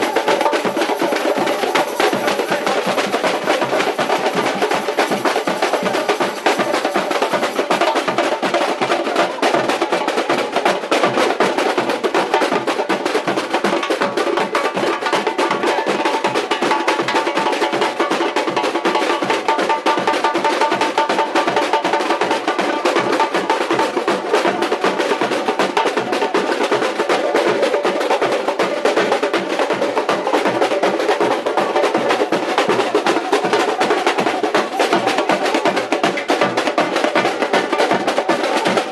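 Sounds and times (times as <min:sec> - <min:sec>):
samba drums playing: 0:00.0 - 0:38.9.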